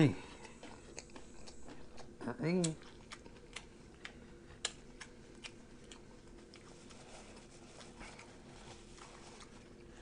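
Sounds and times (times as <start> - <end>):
quiet chewing: 0.1 - 10.0.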